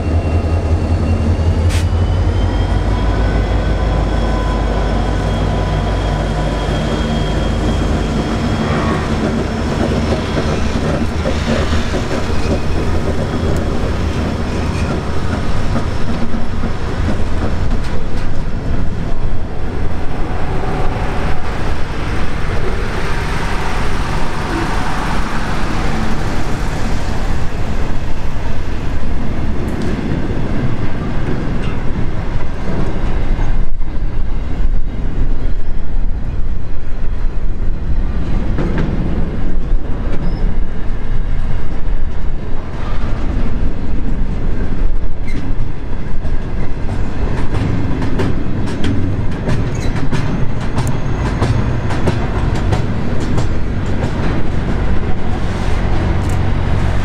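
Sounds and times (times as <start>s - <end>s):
diesel locomotive engine drone: 0.0s - 57.0s
train wagons rumbling on rails: 0.0s - 57.0s.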